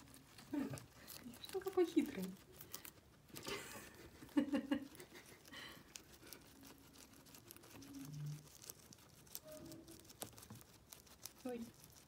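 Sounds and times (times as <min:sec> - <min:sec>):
guinea pigs nibbling grass: 0:00.0 - 0:12.0.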